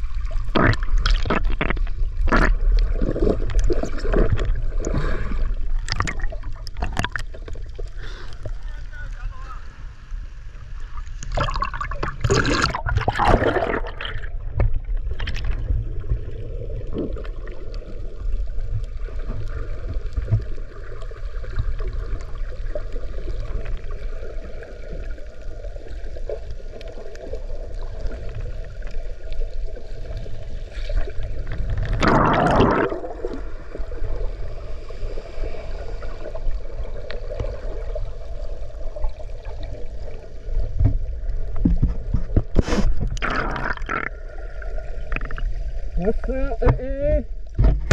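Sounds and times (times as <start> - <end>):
water splashing: 0.0 - 9.4, 10.9 - 47.9
water gurgling: 0.0 - 9.6, 10.5 - 47.9
muffled underwater rumble: 0.0 - 47.9.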